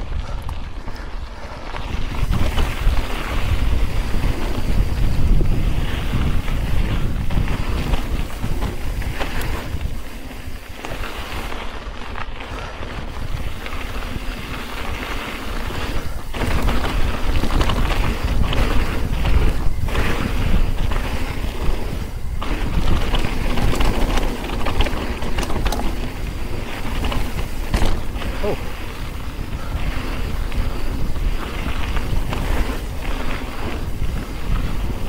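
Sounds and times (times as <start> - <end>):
bike tyres rolling on rocky dirt: 0.0 - 35.0
wind buffeting microphone: 0.0 - 35.0
bike clattering over bumps: 1.6 - 35.0.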